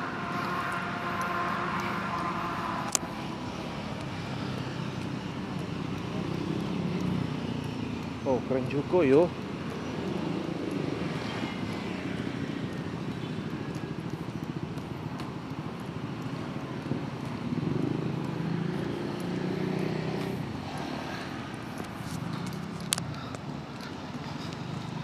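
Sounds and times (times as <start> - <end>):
cars and motorcycles passing: 0.0 - 25.0.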